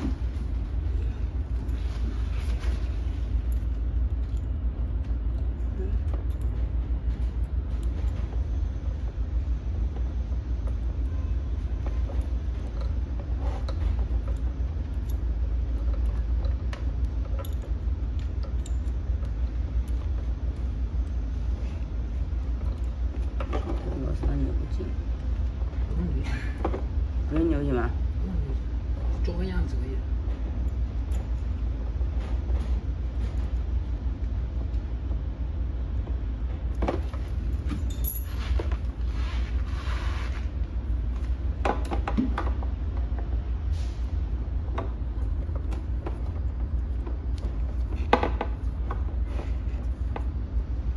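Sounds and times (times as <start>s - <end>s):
cables clicking and rustling: 0.0s - 50.9s
steady low hum: 0.0s - 50.9s.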